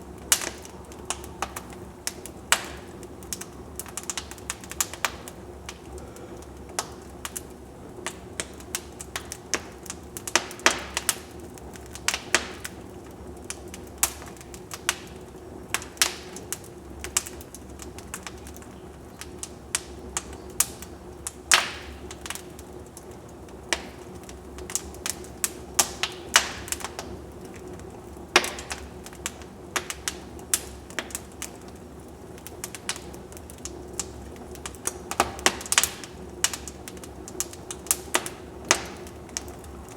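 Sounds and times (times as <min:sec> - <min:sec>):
low hiss of flame: 0:00.0 - 0:39.9
wood fire crackling and popping: 0:00.0 - 0:39.9.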